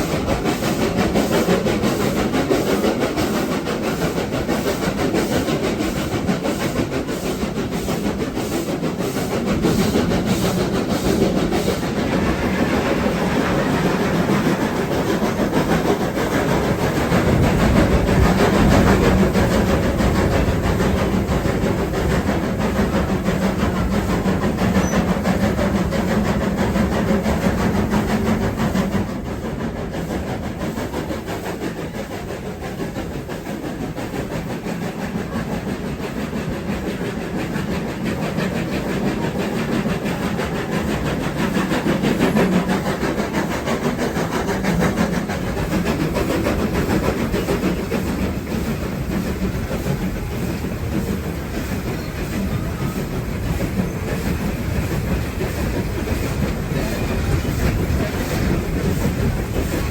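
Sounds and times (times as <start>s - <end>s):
train engine tone: 0.0s - 59.9s
train running: 0.0s - 59.9s.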